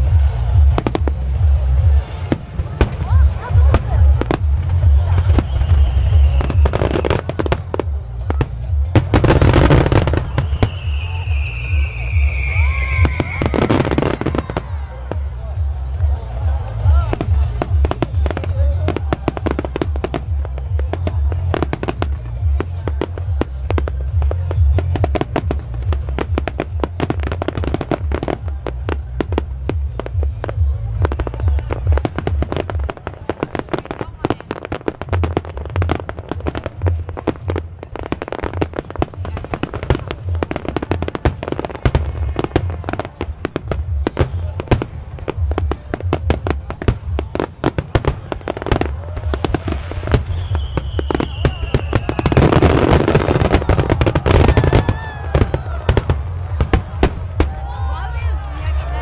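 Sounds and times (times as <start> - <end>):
continuous low rumble: 0.0 - 59.0.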